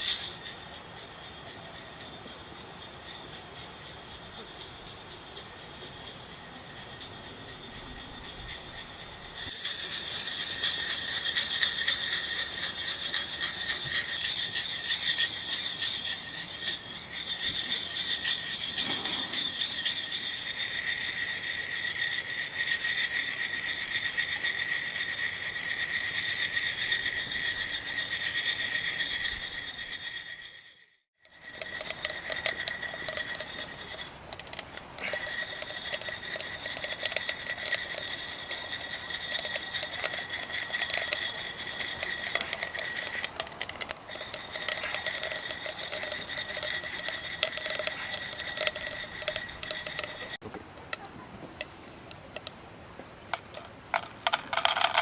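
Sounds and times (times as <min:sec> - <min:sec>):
hand coffee grinder grinding beans: 0:00.0 - 0:52.5, 0:53.3 - 0:55.0.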